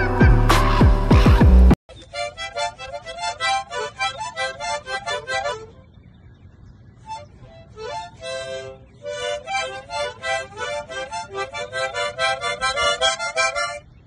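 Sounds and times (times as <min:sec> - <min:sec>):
harmonica playing choppy notes: 0:00.0 - 0:05.8, 0:07.1 - 0:13.8.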